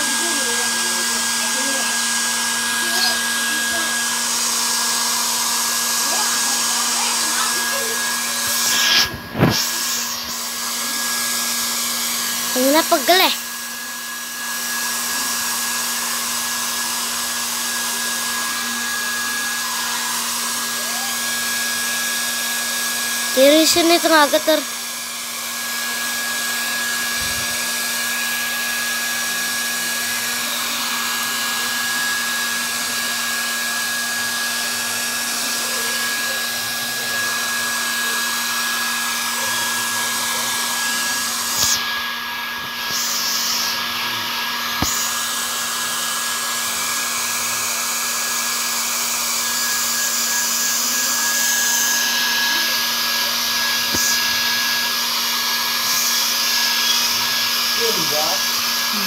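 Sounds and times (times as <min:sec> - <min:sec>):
hair dryer whining: 0:00.0 - 0:59.0.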